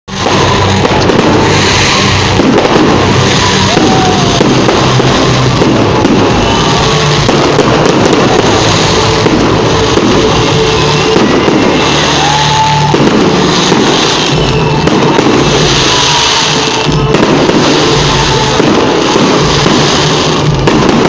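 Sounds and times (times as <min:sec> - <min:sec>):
fireworks crackles and bangs: 0:00.1 - 0:21.0
music playing: 0:00.1 - 0:21.0.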